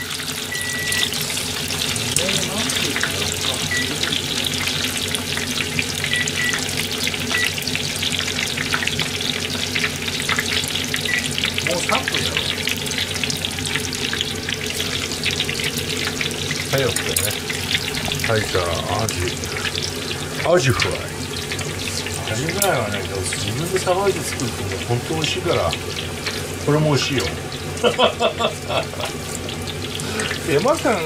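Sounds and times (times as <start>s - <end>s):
food deep-frying in oil: 0.0s - 31.0s.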